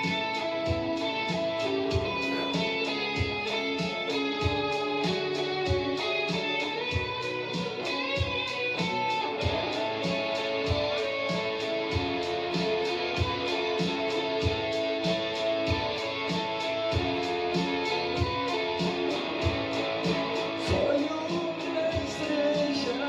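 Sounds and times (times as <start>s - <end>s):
electric guitar playing: 0.0s - 23.0s
steady drum beat: 0.0s - 23.0s.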